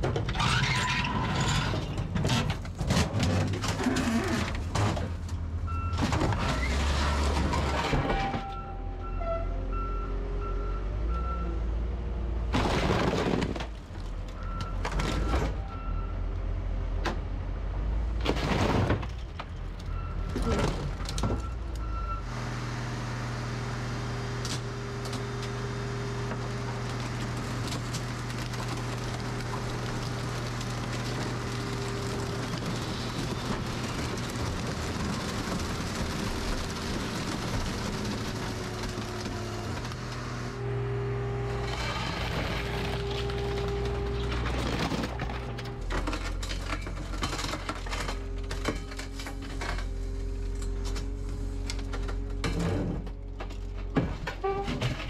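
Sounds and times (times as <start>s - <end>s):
heavy equipment engine: 0.0s - 55.0s.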